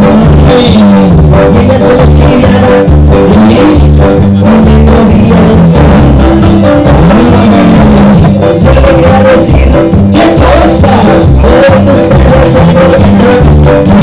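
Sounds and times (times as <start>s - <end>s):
bass line: 0.0s - 14.0s
drum kit: 0.0s - 14.0s
latin percussion: 0.0s - 14.0s.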